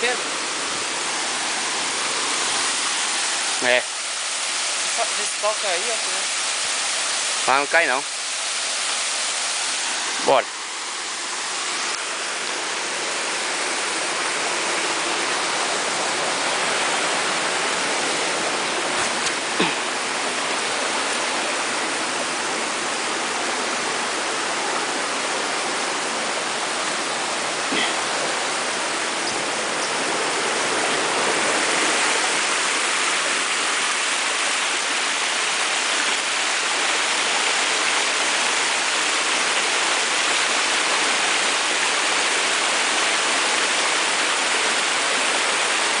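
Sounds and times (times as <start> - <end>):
waterfall rushing onto rocks: 0.0 - 46.0.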